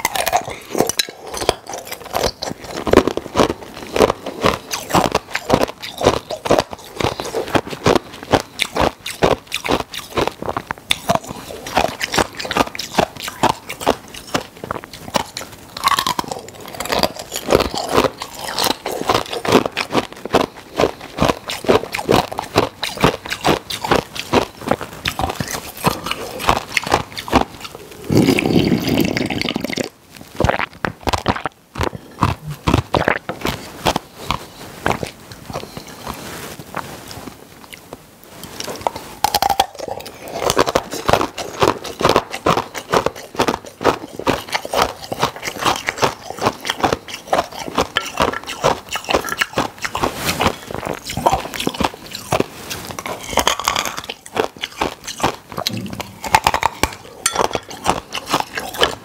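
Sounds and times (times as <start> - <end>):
ice cubes being chewed: 0.0 - 59.0.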